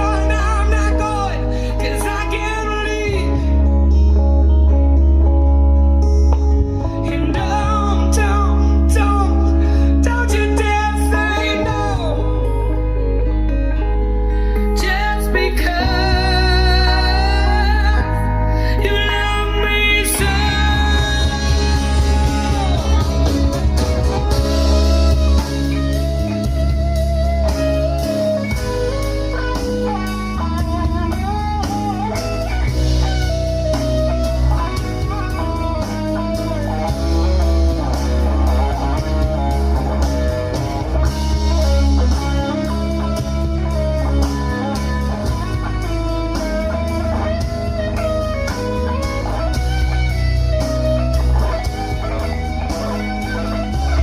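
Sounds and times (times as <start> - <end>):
guitar-led instrumental music: 0.0 - 54.0.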